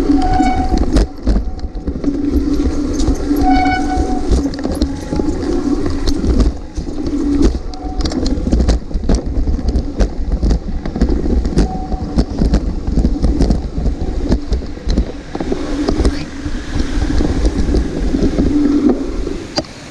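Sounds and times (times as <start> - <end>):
bike rattling and knocking: 0.0 - 19.7
bike rolling over rocky trail: 0.0 - 19.7
wind buffeting microphone: 0.0 - 19.9.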